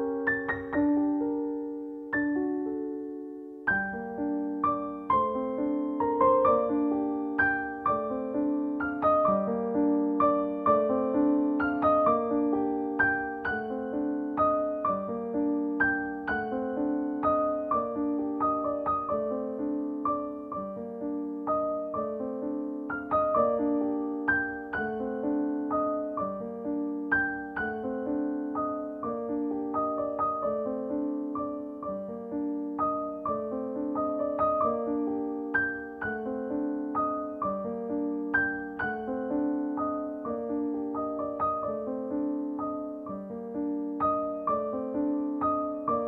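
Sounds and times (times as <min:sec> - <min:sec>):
gentle piano melody: 0:00.0 - 0:46.0.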